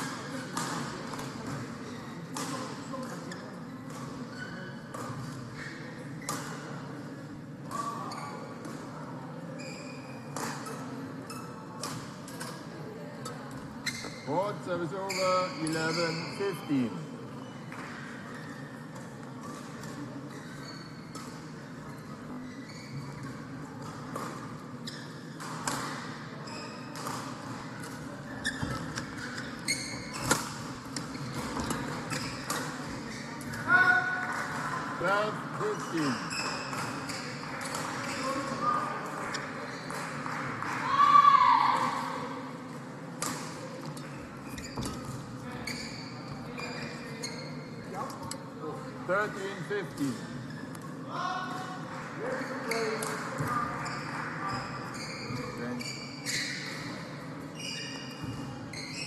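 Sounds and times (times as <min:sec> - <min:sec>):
shoes squeaking on court floor: 0:00.0 - 0:06.8, 0:07.6 - 0:40.2, 0:43.2 - 0:51.0, 0:52.6 - 0:59.0.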